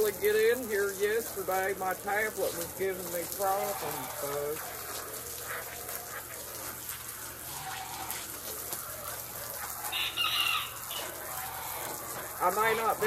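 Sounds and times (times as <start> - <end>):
hose spraying water on deck: 0.0 - 13.0
bird calling: 1.5 - 13.0.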